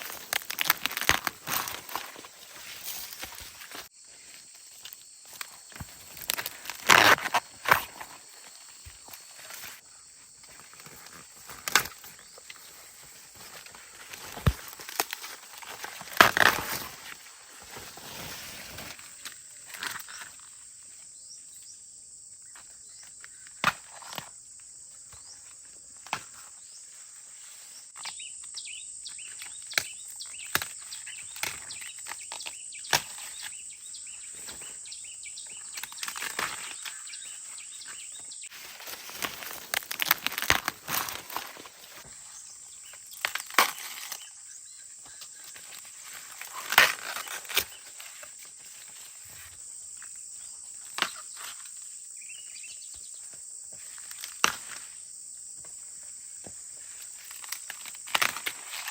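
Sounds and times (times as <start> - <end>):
plants rustling: 0.0 - 21.1, 25.1 - 55.0, 55.6 - 58.9
insect chorus: 0.0 - 58.9.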